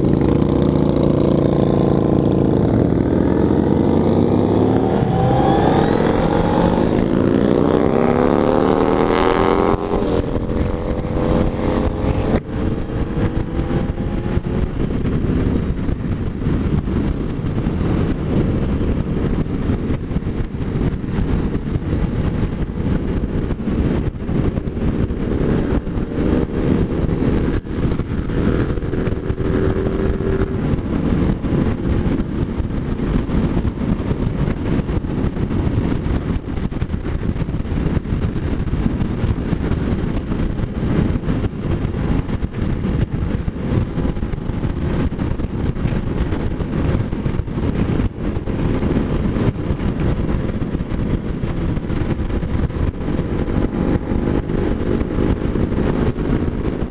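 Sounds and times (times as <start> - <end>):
motorcycle engine: 0.0 - 56.9
wind rushing on microphone: 0.0 - 56.9.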